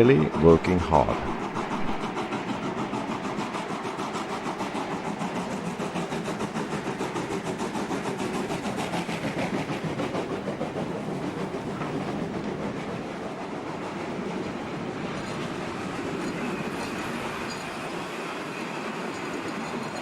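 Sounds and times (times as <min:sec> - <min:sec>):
steam locomotive exhaust beats: 0:00.0 - 0:20.0.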